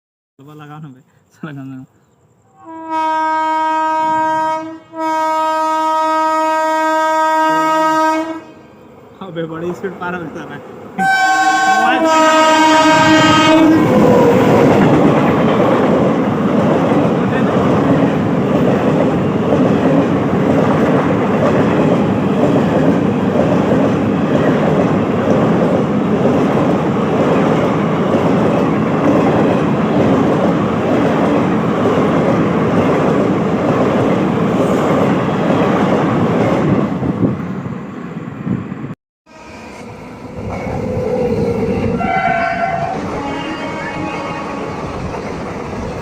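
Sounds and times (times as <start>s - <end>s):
train passing at high speed: 2.7s - 46.0s.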